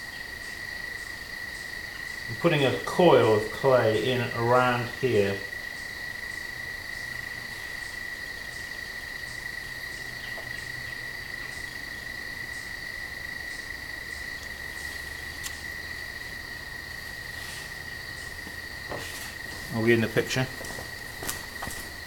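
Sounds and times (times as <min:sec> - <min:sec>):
crickets trilling: 0:00.0 - 0:22.0
faint pulsing chirp: 0:00.0 - 0:22.0.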